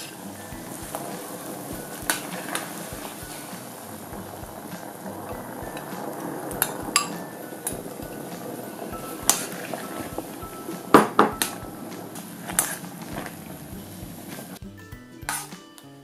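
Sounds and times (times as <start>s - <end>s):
sauce bubbling in a pan: 0.0s - 14.5s.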